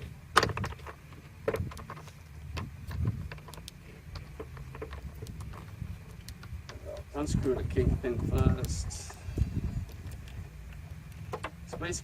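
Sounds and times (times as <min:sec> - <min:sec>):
light clicks and knocks of tools: 0:00.0 - 0:12.0
low steady rumble: 0:00.0 - 0:12.0.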